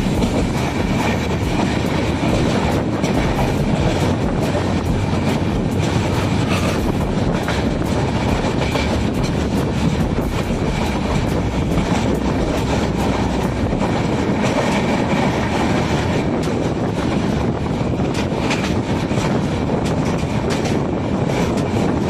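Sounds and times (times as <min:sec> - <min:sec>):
train wheels rumbling on track: 0:00.0 - 0:22.0
wheels clicking over rail joints: 0:00.0 - 0:22.0.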